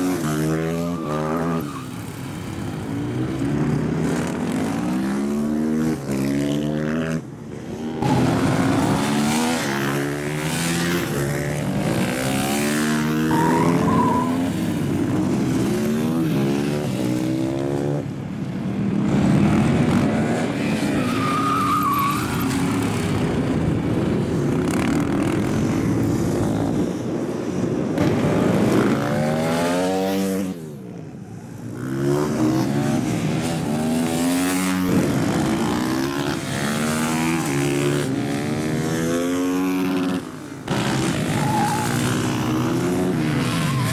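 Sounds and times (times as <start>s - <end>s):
motorcycle engines revving: 0.0s - 43.9s.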